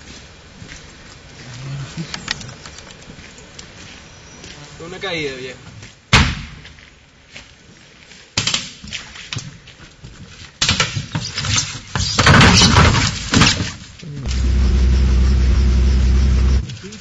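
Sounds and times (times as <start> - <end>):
leaves and branches rustling: 0.0 - 15.8.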